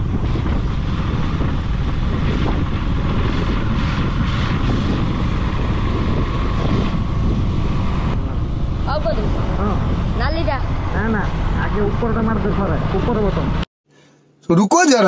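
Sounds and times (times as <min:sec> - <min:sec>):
motorcycle engine running: 0:00.0 - 0:12.4
wind rush over microphone: 0:00.0 - 0:13.7.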